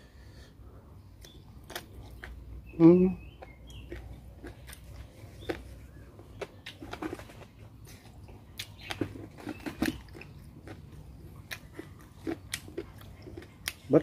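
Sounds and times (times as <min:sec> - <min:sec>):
man chewing food: 0:00.1 - 0:14.0.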